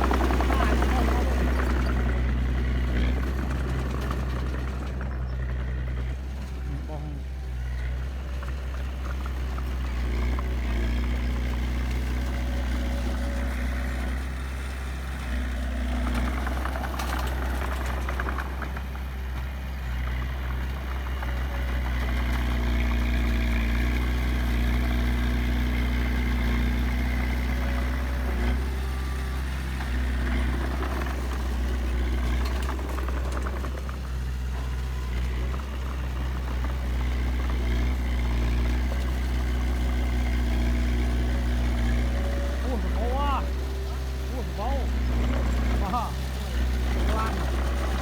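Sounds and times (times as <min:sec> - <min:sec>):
diesel engine running: 0:00.0 - 0:48.0
machinery rattling and clatter: 0:00.0 - 0:48.0.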